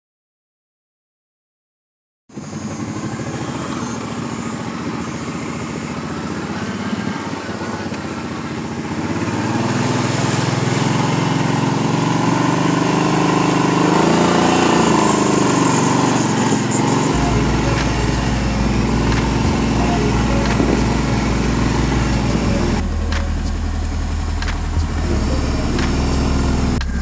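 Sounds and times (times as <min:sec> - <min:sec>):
atv engine running: 0:02.4 - 0:27.0.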